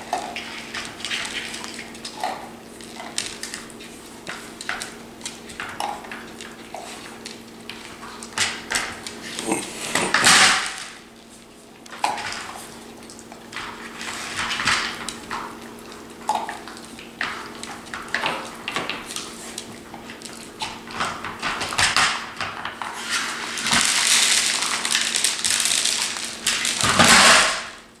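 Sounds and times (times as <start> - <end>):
dog crunching kibble: 0.0 - 27.8.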